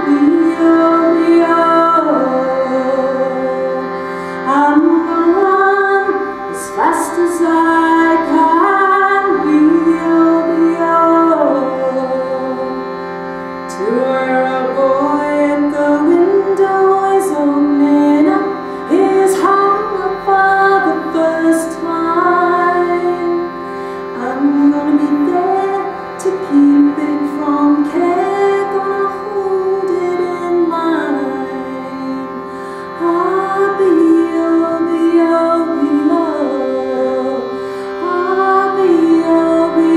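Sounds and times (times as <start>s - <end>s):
shruti box reed drone: 0.0s - 39.9s
woman singing: 0.0s - 39.9s.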